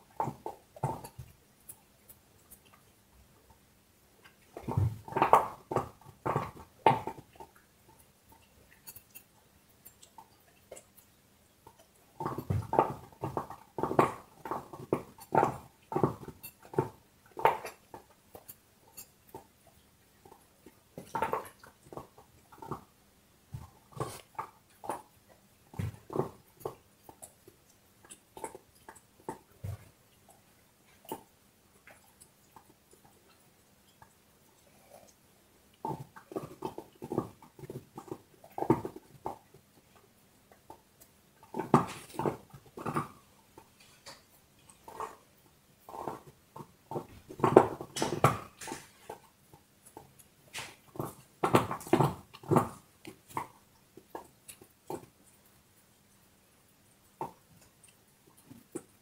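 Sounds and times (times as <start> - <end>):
dog gnawing on a bone: 0.0 - 59.0
faint chewing clicks: 0.0 - 59.0.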